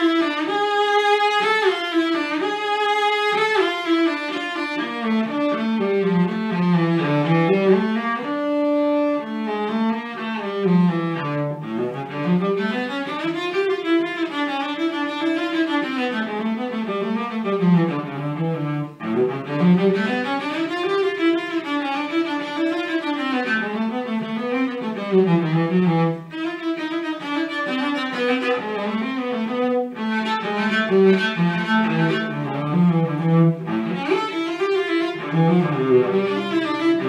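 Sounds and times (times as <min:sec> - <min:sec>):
bowed cello: 0:00.0 - 0:37.0.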